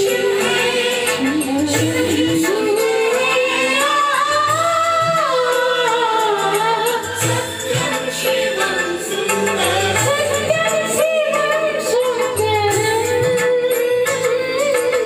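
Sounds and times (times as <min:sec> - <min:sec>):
backing music with steady beat: 0:00.0 - 0:15.0.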